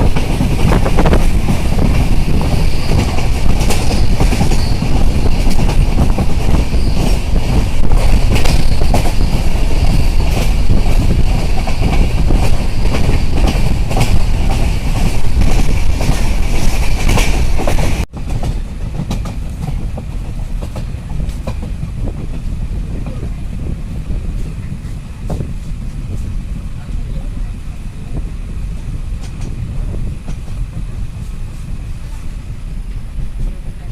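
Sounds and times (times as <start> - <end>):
train rumbling on track: 0.0 - 33.9.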